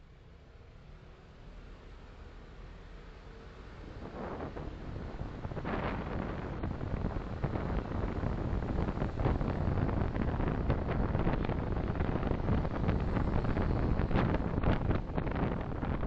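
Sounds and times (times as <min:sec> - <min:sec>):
car road and tyre noise: 0:00.0 - 0:16.0.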